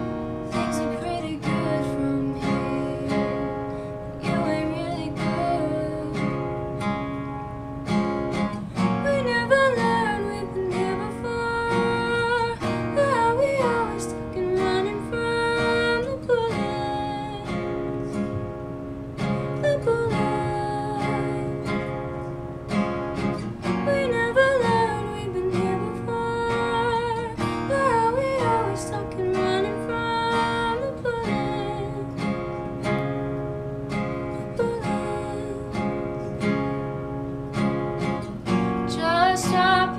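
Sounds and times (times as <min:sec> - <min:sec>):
acoustic guitar: 0:00.0 - 0:39.9
woman singing: 0:00.4 - 0:07.4, 0:08.3 - 0:18.3, 0:19.2 - 0:22.3, 0:23.2 - 0:33.2, 0:33.9 - 0:39.9.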